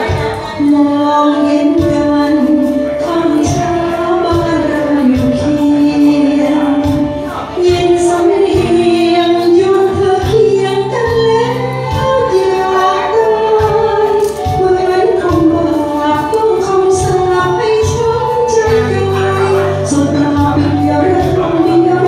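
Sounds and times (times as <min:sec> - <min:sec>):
music with a steady beat: 0:00.0 - 0:22.0
woman singing into a microphone: 0:00.0 - 0:22.0.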